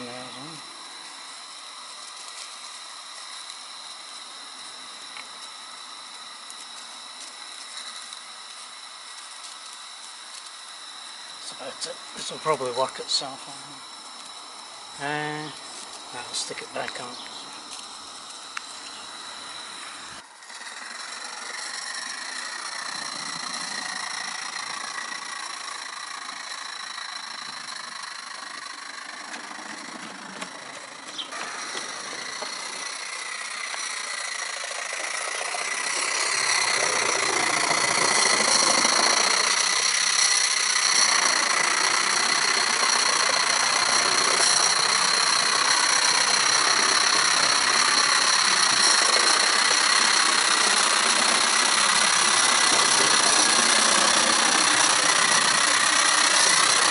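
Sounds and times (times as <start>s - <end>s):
model steam locomotive running: 0.0s - 56.9s.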